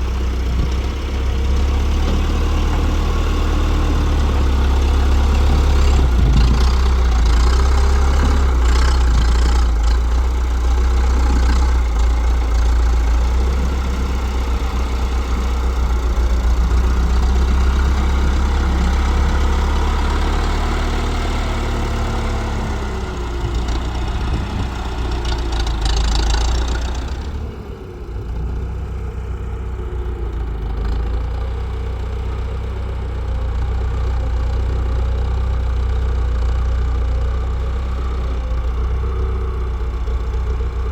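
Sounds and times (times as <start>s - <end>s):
tractor engine rumbling: 0.0s - 40.9s.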